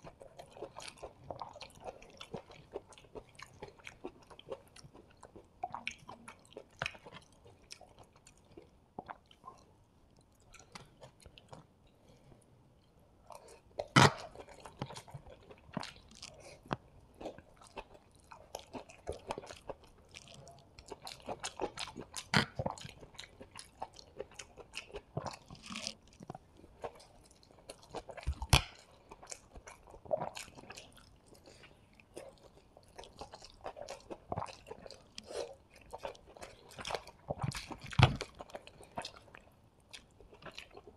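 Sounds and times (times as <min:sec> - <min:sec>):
chewing food: 0:00.0 - 0:40.9.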